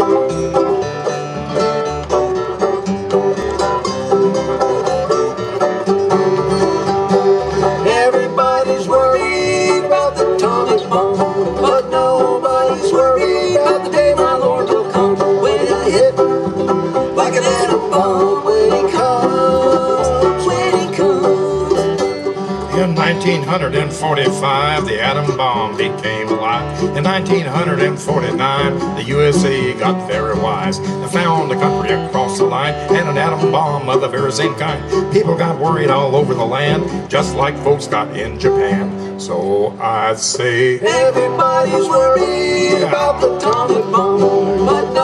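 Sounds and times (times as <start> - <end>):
bluegrass string band playing: 0.0 - 45.0.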